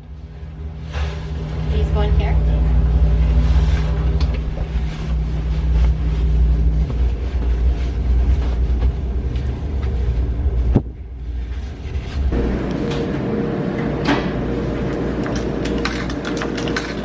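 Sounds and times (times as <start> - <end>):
vehicle rumbling: 0.0 - 17.0.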